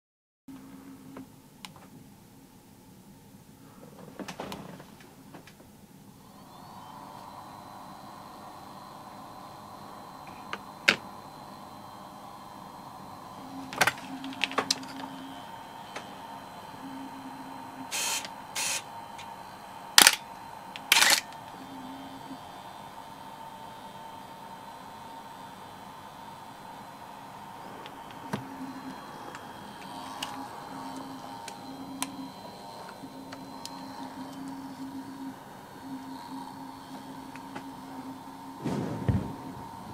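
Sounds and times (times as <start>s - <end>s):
faint steady whine: 0.5s - 39.9s
low motor hum: 6.0s - 39.9s.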